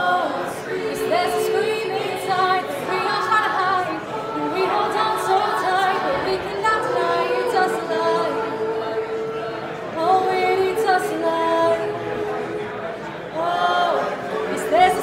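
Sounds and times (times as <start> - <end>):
a cappella choir singing: 0.0 - 15.0
female soloist singing: 0.0 - 15.0.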